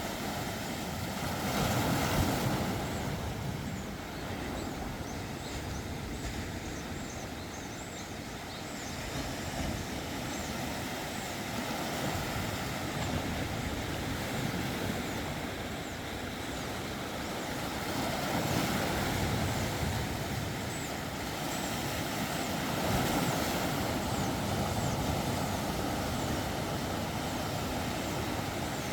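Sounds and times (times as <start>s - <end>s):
sea waves washing on shore: 0.0s - 28.9s.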